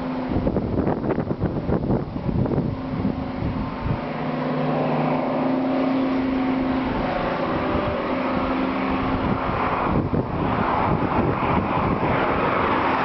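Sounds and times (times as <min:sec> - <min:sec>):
diesel locomotive droning: 0:00.0 - 0:13.0.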